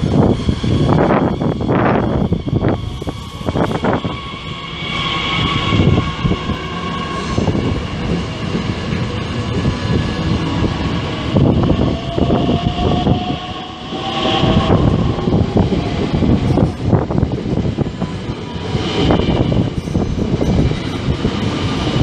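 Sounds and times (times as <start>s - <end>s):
electric traction whine: 0.0s - 22.0s
train running rumble: 0.0s - 22.0s.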